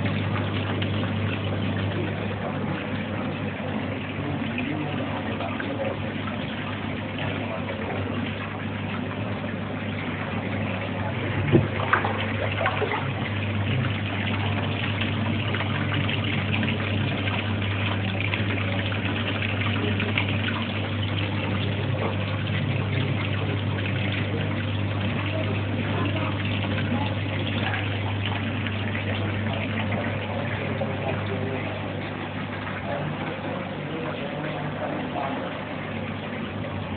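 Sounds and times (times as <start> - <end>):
aquarium pump hum: 0.0 - 36.9
bubbling and trickling water: 0.0 - 36.9.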